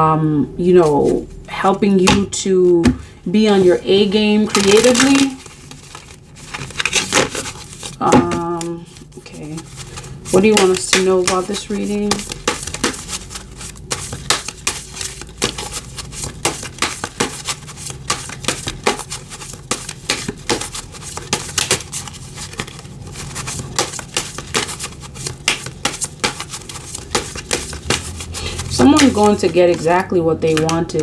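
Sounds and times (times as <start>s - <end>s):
cards being shuffled: 3.6s - 31.0s.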